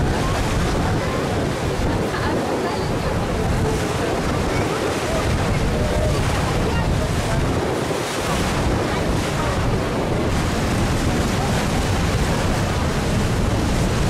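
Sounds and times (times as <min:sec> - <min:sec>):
water rushing past boat: 0:00.0 - 0:14.0
wind buffeting microphone: 0:00.0 - 0:14.0.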